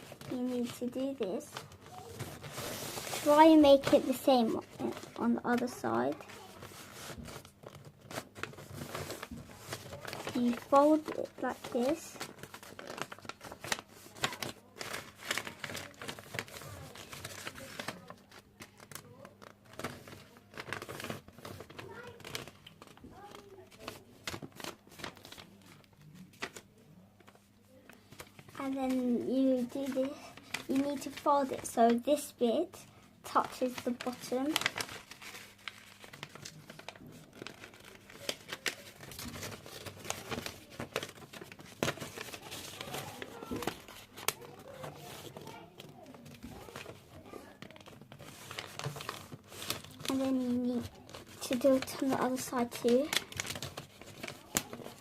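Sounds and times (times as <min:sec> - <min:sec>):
paper being folded and creased: 0:00.0 - 0:55.0.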